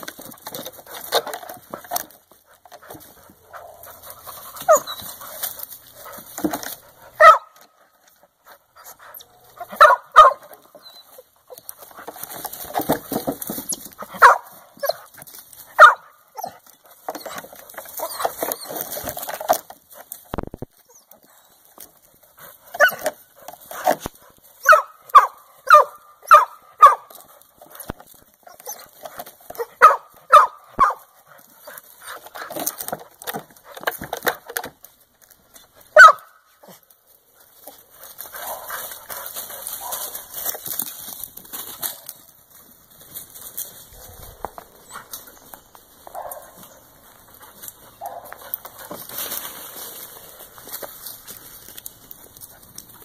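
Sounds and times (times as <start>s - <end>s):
dogs barking and yipping: 0.0s - 34.9s, 35.5s - 42.3s, 43.1s - 53.0s
rustling of dry leaves: 0.0s - 53.0s.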